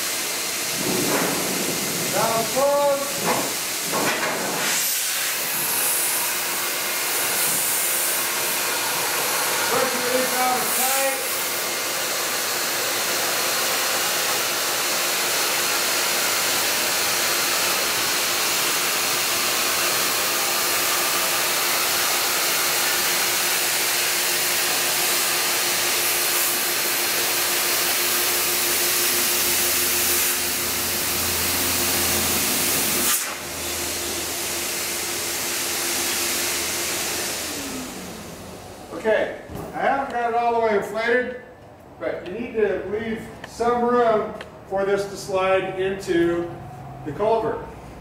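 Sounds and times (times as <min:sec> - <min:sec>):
electric blower air rushing: 0:00.0 - 0:39.1
blower hum: 0:00.0 - 0:48.0.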